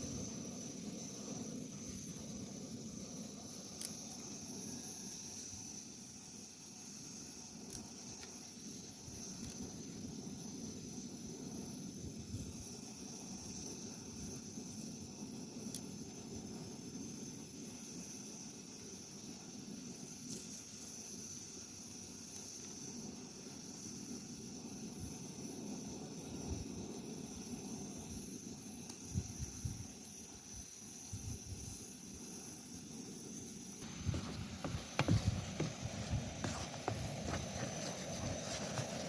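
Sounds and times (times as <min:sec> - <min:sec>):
fire crackles: 0:00.0 - 0:39.0
fire hissing: 0:00.0 - 0:39.0.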